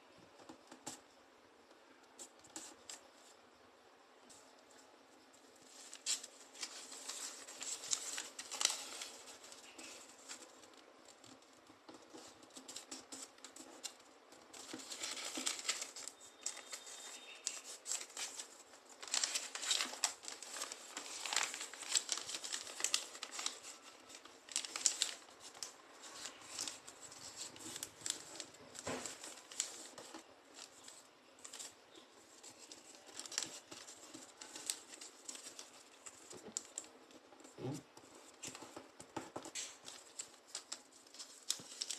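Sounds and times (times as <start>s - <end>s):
paper rustling and crinkling: 2.2s - 3.4s, 4.2s - 41.9s.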